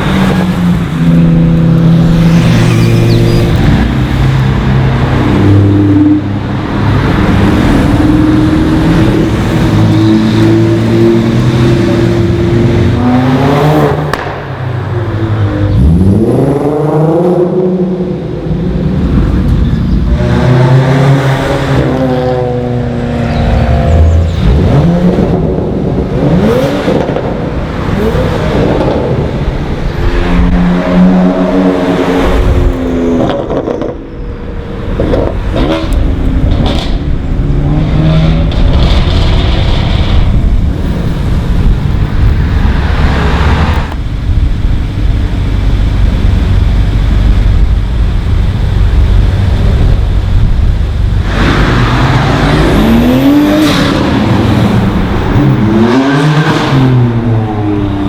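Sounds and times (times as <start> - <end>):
cars revving past: 0.0 - 44.0, 48.9 - 58.0.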